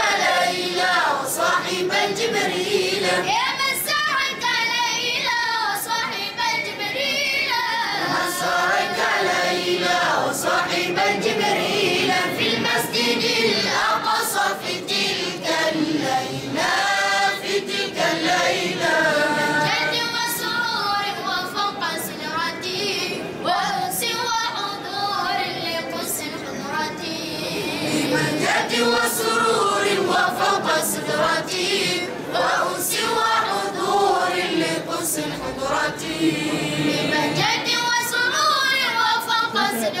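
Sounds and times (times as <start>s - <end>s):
boys choir singing devotional song: 0.0s - 40.0s.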